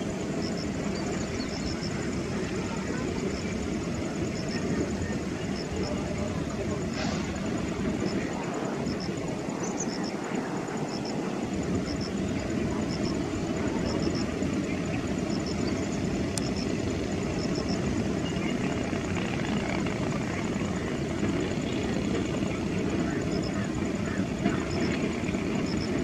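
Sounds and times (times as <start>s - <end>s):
distant jet engine rumble: 0.0s - 26.0s.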